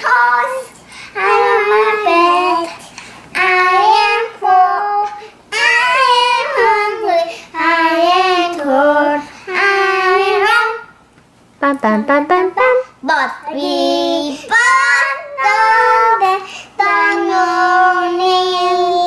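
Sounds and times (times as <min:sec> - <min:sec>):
young child singing: 0:00.0 - 0:11.0, 0:13.0 - 0:19.0.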